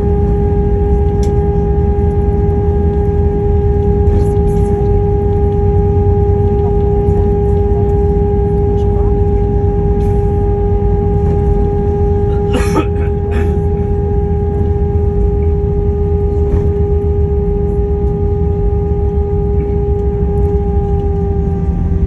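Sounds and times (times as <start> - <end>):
jet engines whining: 0.0 - 22.0
wheels rumbling on runway: 0.0 - 22.0.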